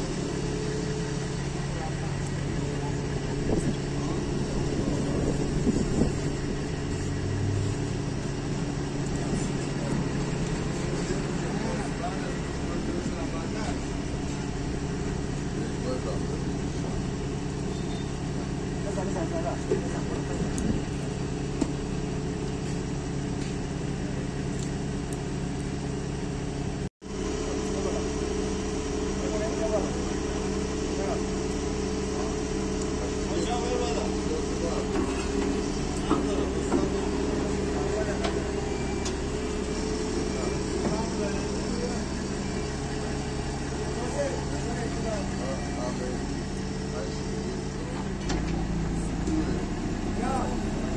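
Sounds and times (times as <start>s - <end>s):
lift truck engine idling: 0.0s - 50.9s.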